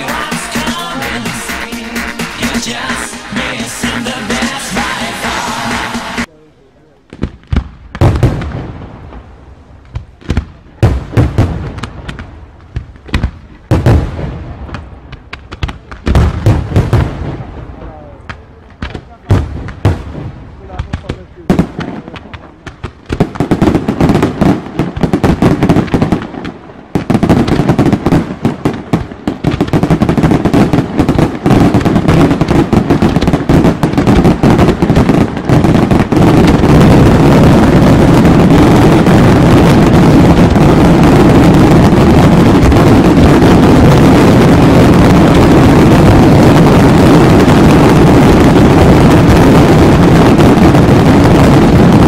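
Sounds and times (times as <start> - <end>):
fireworks bangs and crackling: 0.0 - 6.3, 7.0 - 52.0.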